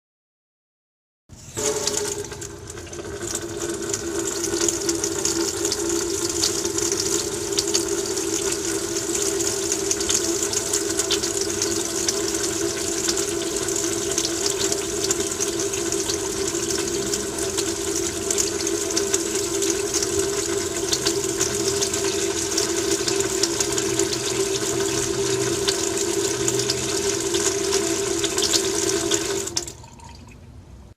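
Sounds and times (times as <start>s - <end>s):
tap water splashing into sink: 1.6s - 30.4s.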